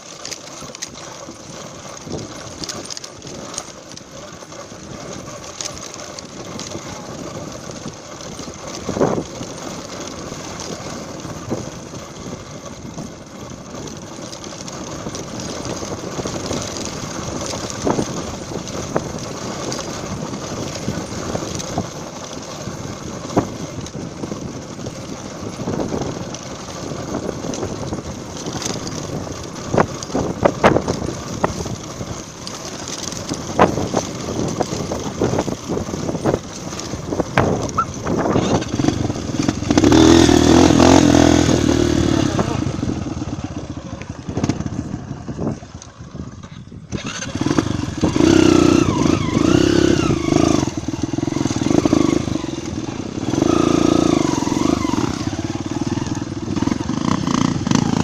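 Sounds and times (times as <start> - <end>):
knocks and rattles over rough ground: 0.0 - 58.0
motorcycle engine running: 0.0 - 58.0.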